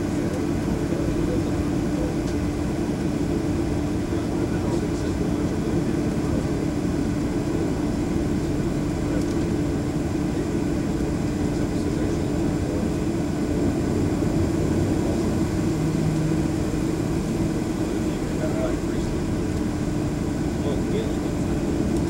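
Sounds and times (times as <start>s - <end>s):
jet engines idling cabin drone: 0.0s - 22.0s
lower hum: 0.0s - 22.0s.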